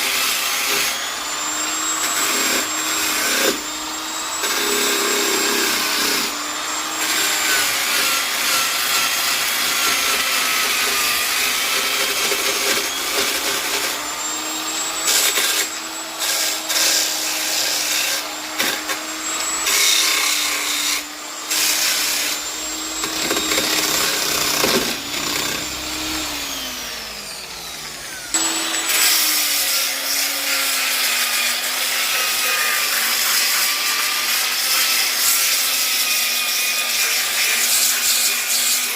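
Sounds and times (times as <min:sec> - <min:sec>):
rough sanding rasp on wood: 0:00.0 - 0:26.6, 0:28.4 - 0:38.9
electric polisher motor hum: 0:00.0 - 0:36.0.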